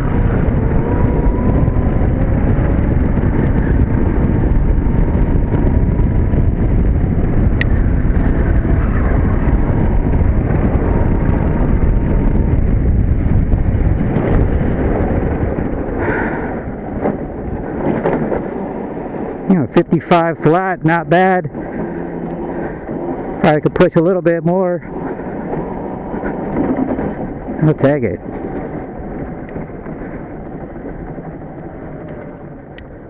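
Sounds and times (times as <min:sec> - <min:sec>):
wheels rolling noise: 0:00.0 - 0:33.0
wind rushing on microphone: 0:00.0 - 0:33.0.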